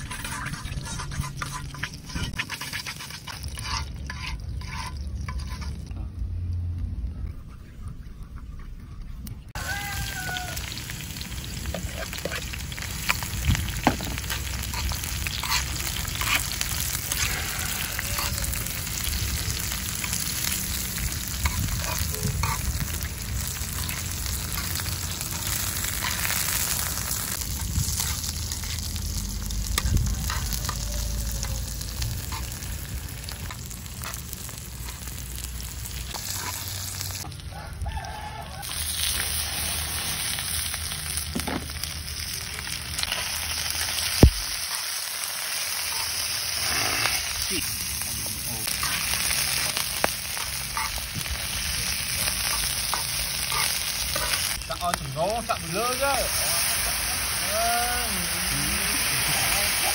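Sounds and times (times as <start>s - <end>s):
oil sizzling in a wok: 0.0s - 5.9s, 9.5s - 59.9s.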